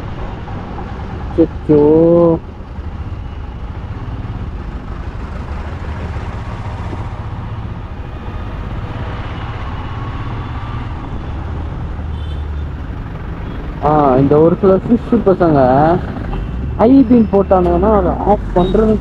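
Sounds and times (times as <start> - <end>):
road rumble: 0.0 - 19.0.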